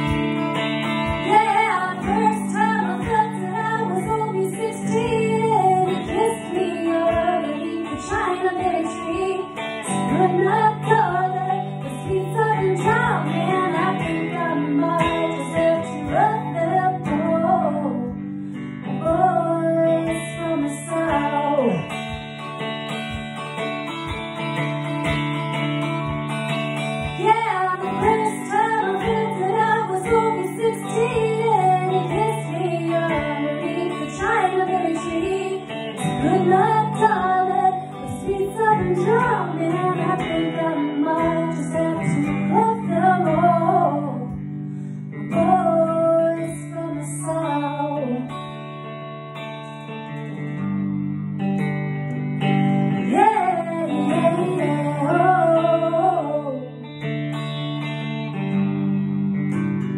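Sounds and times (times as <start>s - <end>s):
woman singing: 0.0s - 22.2s, 27.0s - 44.6s, 45.2s - 48.9s, 52.8s - 57.6s
bending guitar melody: 0.0s - 59.9s
electric guitar chords: 0.0s - 59.9s.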